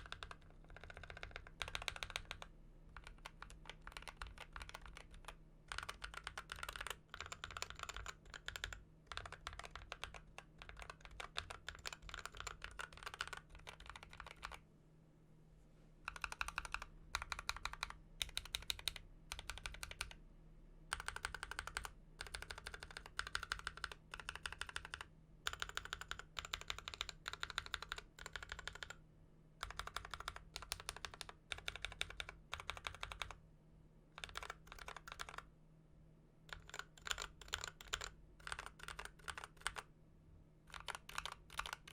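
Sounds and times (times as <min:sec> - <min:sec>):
mechanical keyboard typing: 0:00.0 - 0:14.6, 0:16.1 - 0:20.2, 0:20.9 - 0:29.0, 0:29.6 - 0:33.4, 0:34.2 - 0:35.5, 0:36.5 - 0:39.9, 0:40.7 - 0:41.9.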